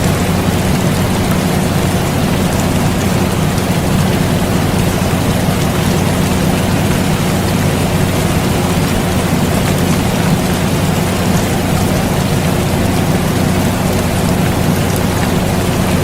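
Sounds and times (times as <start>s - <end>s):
air conditioner humming: 0.0s - 16.0s
steady rain: 0.0s - 16.0s.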